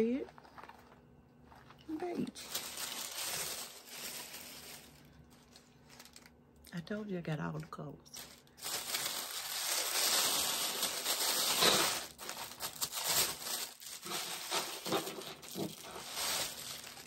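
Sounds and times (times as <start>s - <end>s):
packaging crinkling and rustling: 0.0s - 6.4s, 8.1s - 17.0s.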